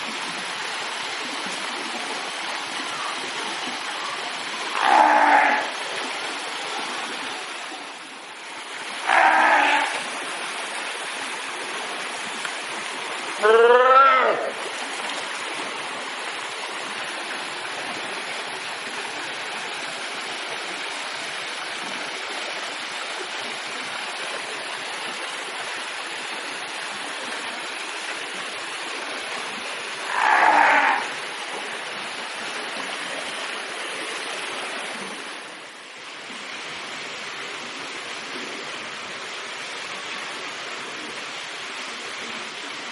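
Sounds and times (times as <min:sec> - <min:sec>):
running water rushing: 0:00.0 - 0:42.9.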